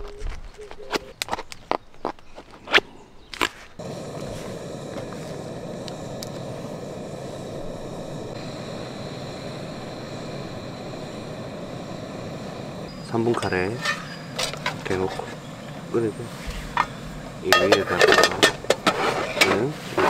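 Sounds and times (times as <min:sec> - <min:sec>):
gas stove burner hissing: 0:03.8 - 0:20.0.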